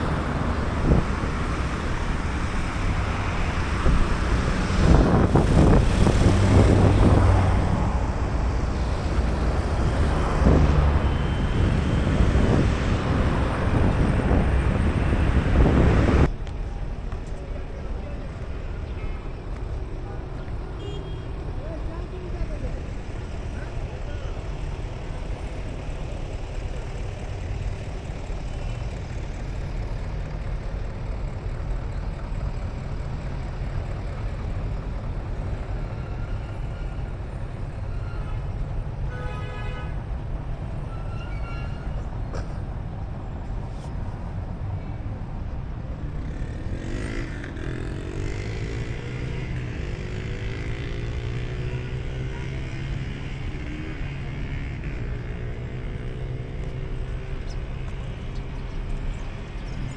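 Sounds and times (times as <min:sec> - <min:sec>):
traffic engine rumble: 0:00.0 - 0:59.9.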